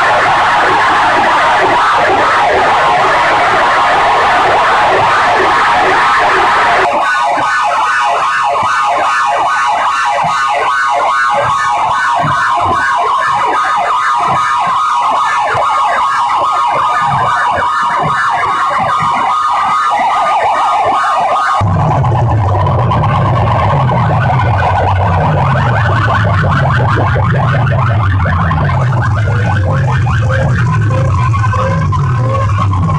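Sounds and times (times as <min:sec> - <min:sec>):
loud electronic track on loudspeakers: 0:00.0 - 0:32.9.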